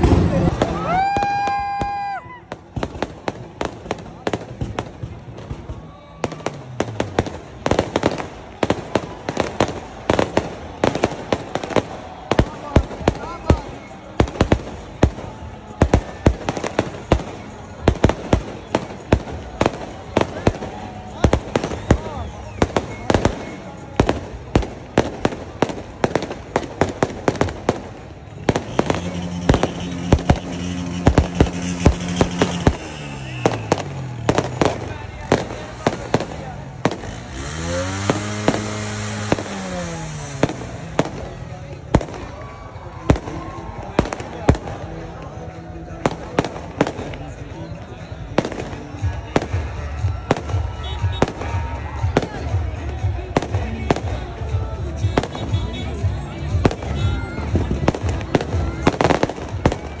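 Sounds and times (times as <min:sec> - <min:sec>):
fireworks bangs: 0:00.0 - 1:00.0.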